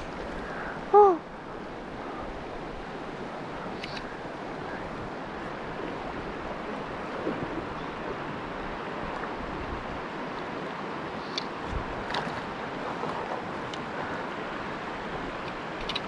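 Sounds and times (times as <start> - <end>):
river rushing over cobbles: 0.0 - 16.0.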